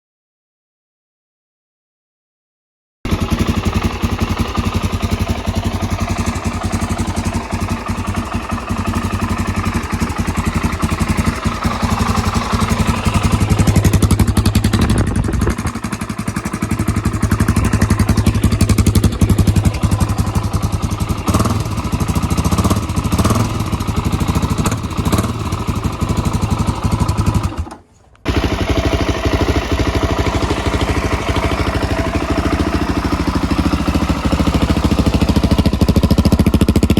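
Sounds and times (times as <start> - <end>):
motorcycle engine idling: 3.1 - 36.9.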